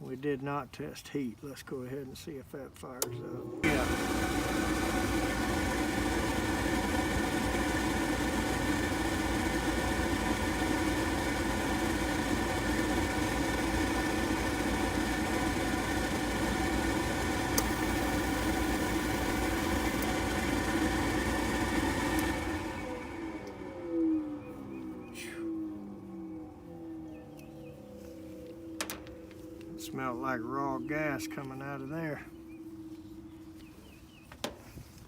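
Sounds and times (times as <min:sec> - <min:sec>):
steady motor hum: 0:02.9 - 0:35.0.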